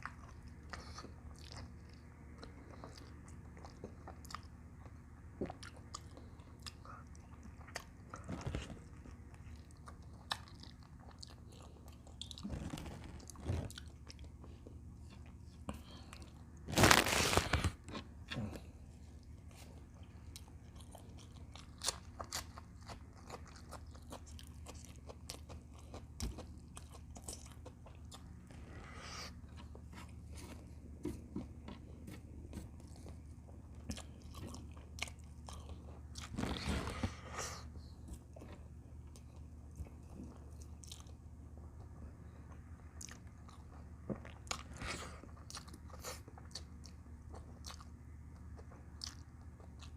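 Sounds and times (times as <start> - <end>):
chewing and biting: 0.0 - 49.9.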